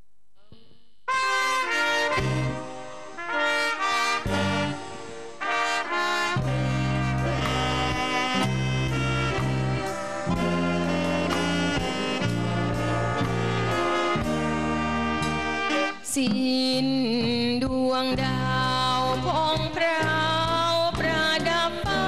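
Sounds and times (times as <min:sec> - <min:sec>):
dance band playing slow ballad: 0:01.2 - 0:22.0.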